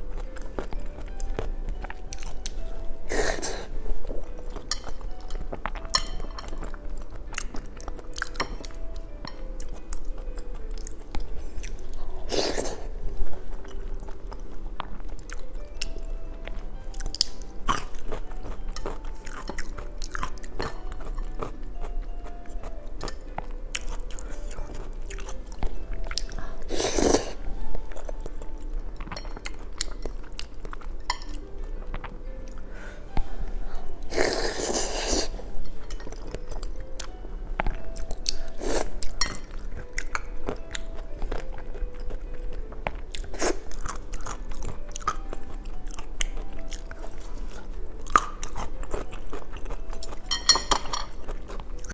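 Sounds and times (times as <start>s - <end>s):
soft background music: 0.0s - 51.9s
close chewing and mouth smacks: 4.1s - 27.3s, 27.9s - 32.7s, 35.8s - 51.9s.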